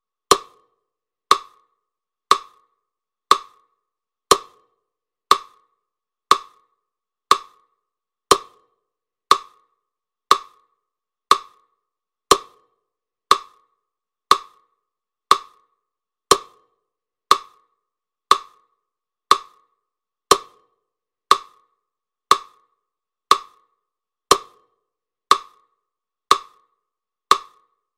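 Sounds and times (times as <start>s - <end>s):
sharp woody ticking: 0.3s - 0.7s, 1.3s - 1.7s, 2.3s - 2.7s, 3.3s - 3.7s, 4.3s - 4.7s, 5.3s - 7.7s, 8.3s - 27.8s.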